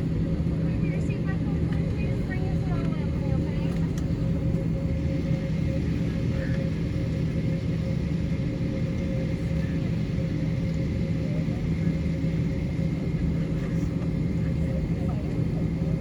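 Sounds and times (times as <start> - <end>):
jet engines rumbling in cabin: 0.0 - 16.0.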